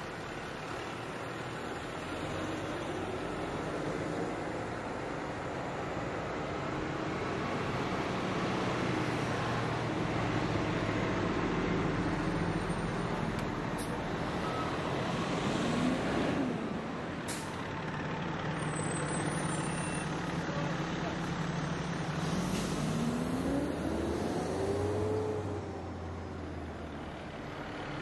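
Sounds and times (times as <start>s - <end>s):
fire truck diesel engines: 0.0s - 28.0s.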